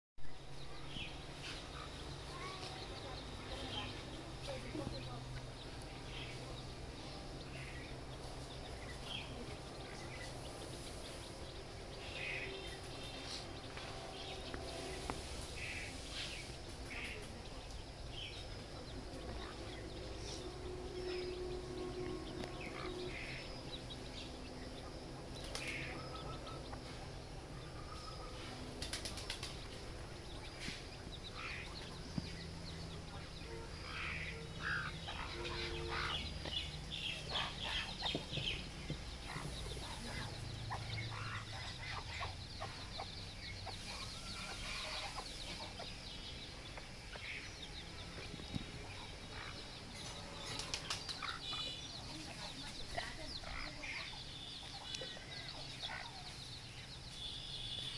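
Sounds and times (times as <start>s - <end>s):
faint low hum: 0.2s - 57.9s
baby chicks peeping: 0.8s - 57.9s.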